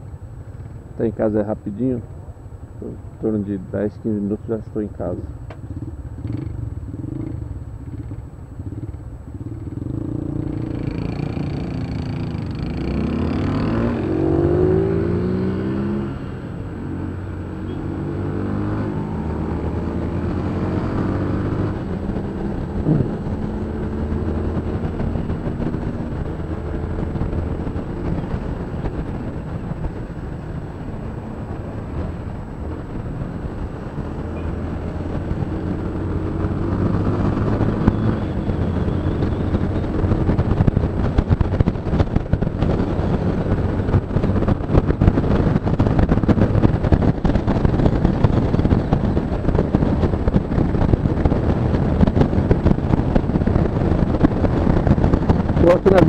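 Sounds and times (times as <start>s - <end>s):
road and wind noise: 0.0s - 56.0s
motorcycle engine accelerating: 5.3s - 56.0s.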